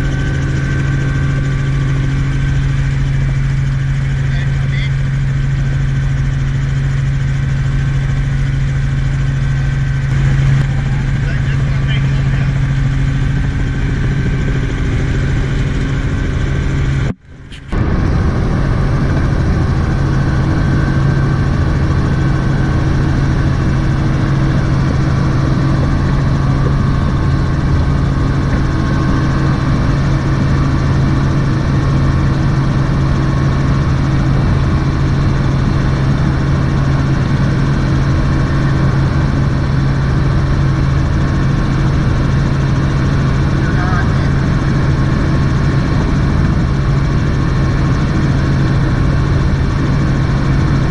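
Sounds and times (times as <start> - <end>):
helicopter engine and rotor drone: 0.0 - 50.9.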